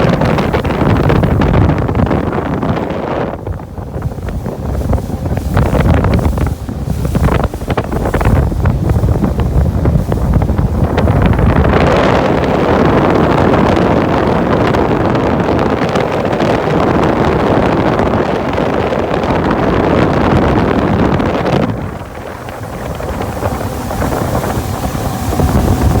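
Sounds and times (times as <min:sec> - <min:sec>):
water rushing past boat hull: 0:00.0 - 0:26.0
wind buffeting microphone: 0:00.0 - 0:26.0.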